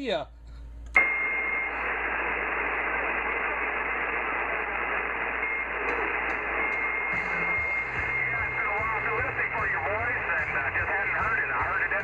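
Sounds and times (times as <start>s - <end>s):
radio static hiss: 1.0s - 12.0s.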